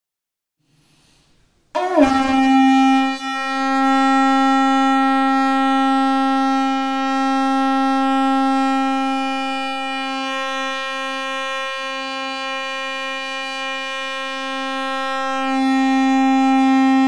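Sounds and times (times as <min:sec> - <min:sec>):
conch blown long note: 0:01.7 - 0:17.0.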